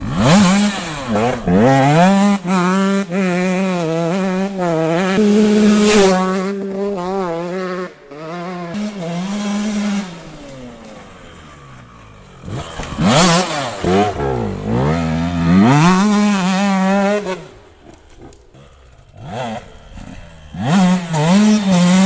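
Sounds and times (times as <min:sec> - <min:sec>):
motorcycle engine at high revs: 0:00.0 - 0:22.0.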